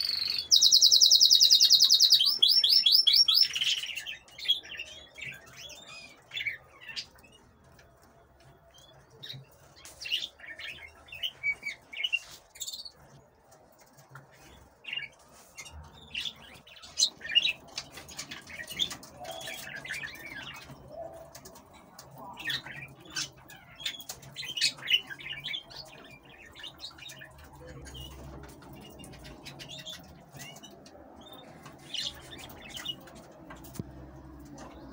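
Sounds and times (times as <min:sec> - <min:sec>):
canaries chirping: 0:00.0 - 0:34.9.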